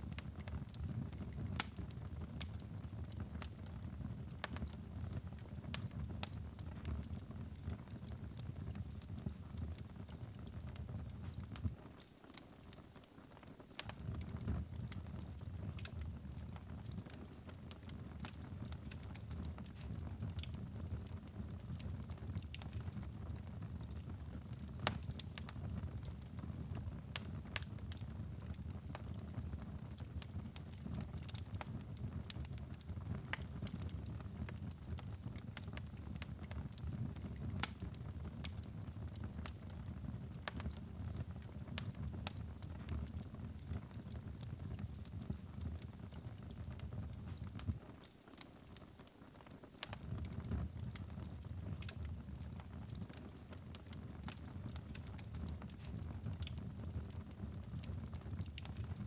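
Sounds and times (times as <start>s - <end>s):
low rumble of flames: 0.0s - 11.8s, 13.8s - 47.8s, 49.8s - 59.0s
fire crackling and popping: 0.0s - 59.0s.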